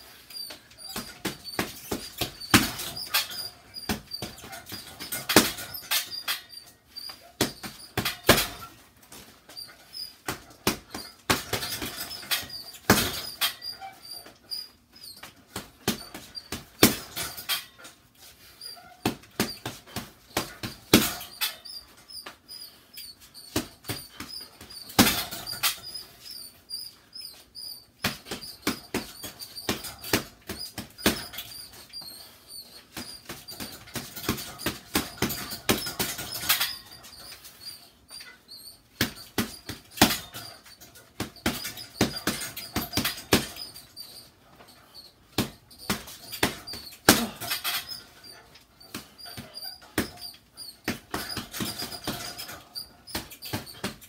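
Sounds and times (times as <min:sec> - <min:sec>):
small high squeak: 0:00.0 - 0:08.8, 0:09.5 - 0:15.4, 0:18.3 - 0:54.0.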